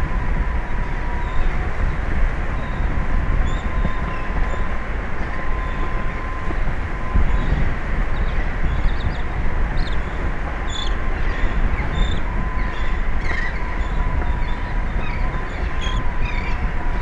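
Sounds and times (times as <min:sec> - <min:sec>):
thin steady whine: 0:00.0 - 0:17.0
wind and sea rumbling: 0:00.0 - 0:17.0.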